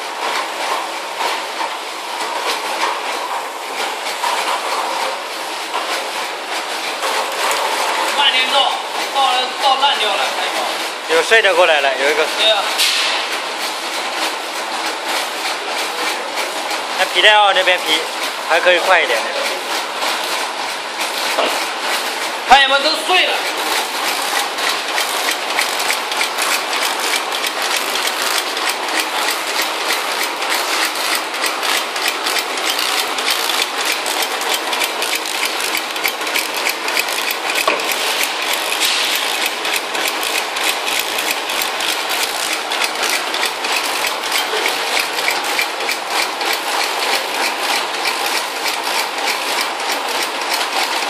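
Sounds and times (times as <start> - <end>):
packaging machine whirring: 0.0 - 51.0
rapid mechanical clicking: 3.7 - 51.0.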